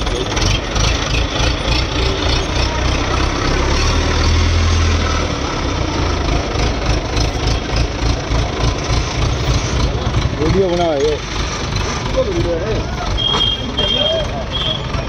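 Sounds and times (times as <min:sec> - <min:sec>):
crane diesel engine rumbling: 0:00.0 - 0:15.0.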